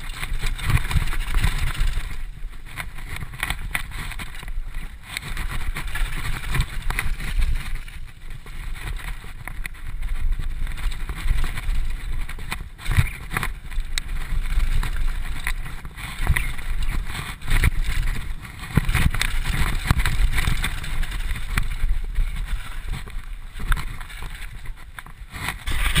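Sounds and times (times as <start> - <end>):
bike knocking and rattling: 0.0 - 26.0
bike tyres rumbling on dirt: 0.0 - 26.0
wind on camera: 0.0 - 26.0.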